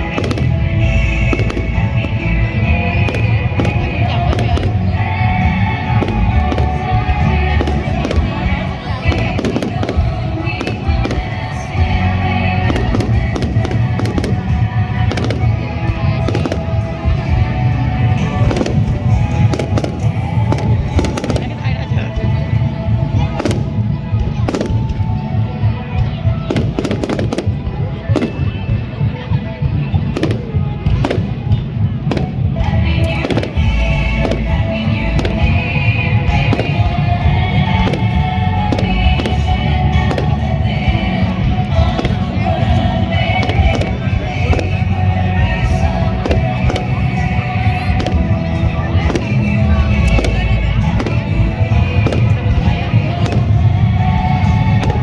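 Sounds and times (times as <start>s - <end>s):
fireworks bangs: 0.0s - 55.0s
loud music: 0.0s - 55.0s.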